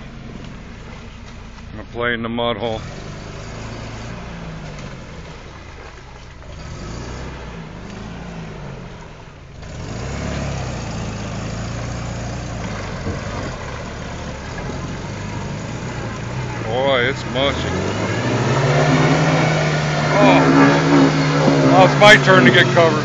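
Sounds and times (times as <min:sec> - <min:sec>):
pickup engine revving: 0:02.6 - 0:23.0.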